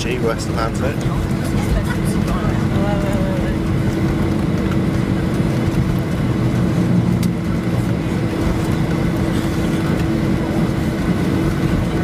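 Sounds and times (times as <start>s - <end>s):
aircraft engines and wheels rumbling: 0.0s - 12.0s.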